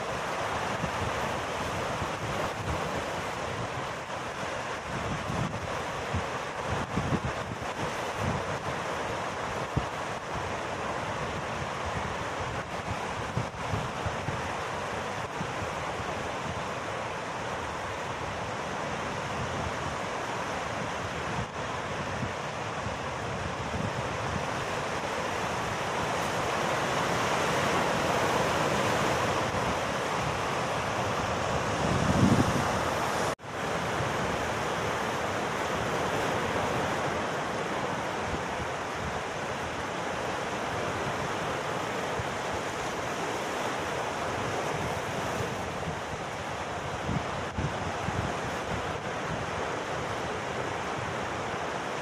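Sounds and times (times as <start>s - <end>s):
surf washing over rocks: 0.0s - 52.0s.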